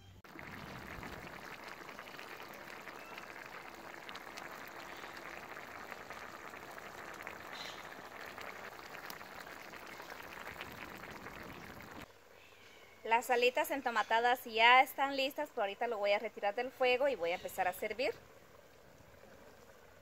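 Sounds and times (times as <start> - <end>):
sauce bubbling in a pan: 0.2 - 20.0.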